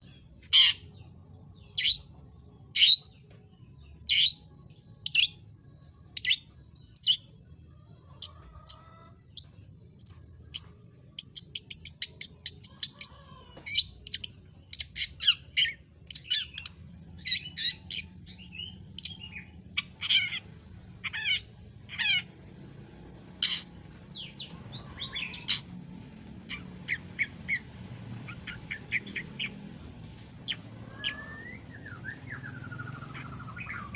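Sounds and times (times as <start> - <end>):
faint bird chatter: 0.0 - 33.9.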